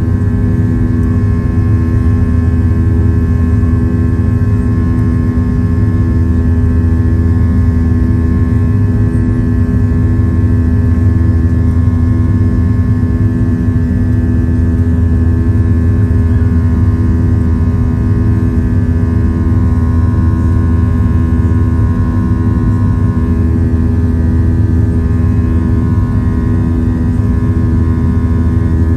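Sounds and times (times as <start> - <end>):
airplane cabin drone: 0.0 - 28.9.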